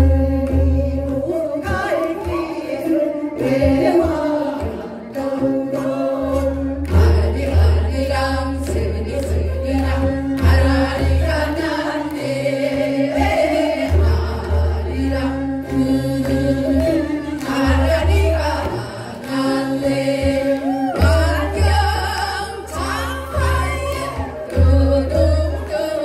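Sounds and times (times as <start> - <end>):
women singing folk song: 0.0 - 26.0.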